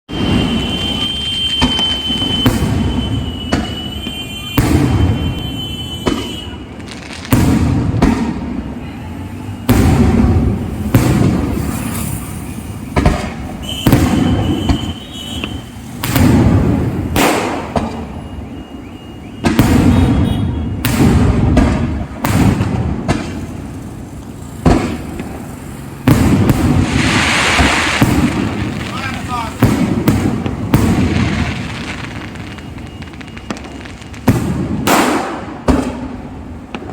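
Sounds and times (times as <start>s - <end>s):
high firework whistle: 0.1s - 23.5s, 26.0s - 36.2s
fireworks banging: 0.1s - 36.9s.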